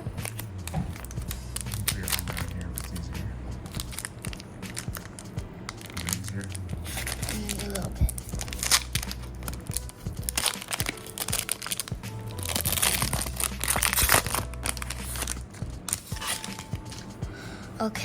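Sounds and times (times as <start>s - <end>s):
background music: 0.0s - 18.0s
foil wrapper crinkling and tearing: 1.0s - 3.1s, 3.7s - 17.0s.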